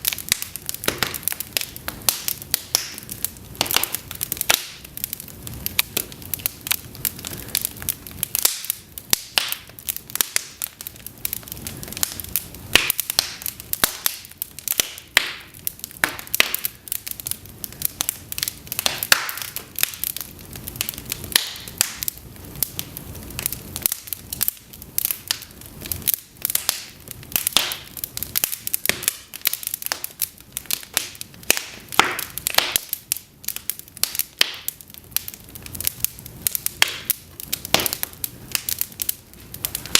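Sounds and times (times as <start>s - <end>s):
logs crackling and popping: 0.0s - 39.9s
low hiss of flame: 0.0s - 39.9s.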